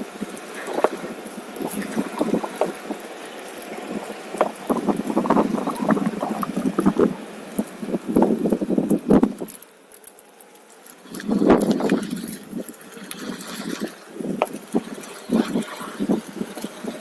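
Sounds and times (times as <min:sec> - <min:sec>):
wind gusts on microphone: 0:00.0 - 0:09.6, 0:11.0 - 0:17.0
board rolling noise: 0:00.0 - 0:17.0.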